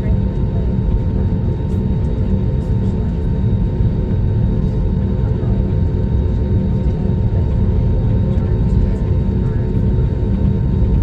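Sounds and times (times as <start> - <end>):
jet engine and airflow rumble: 0.0 - 11.0.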